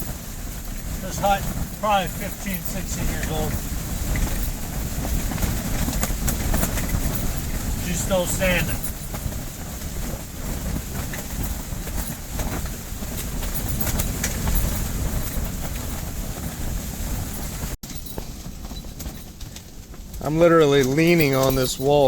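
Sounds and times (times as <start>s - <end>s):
strong wind rumble: 0.0s - 17.8s.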